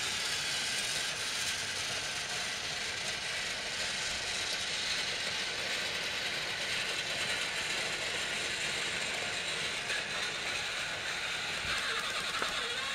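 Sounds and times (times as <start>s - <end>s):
toy train motor whirring: 0.0s - 12.9s.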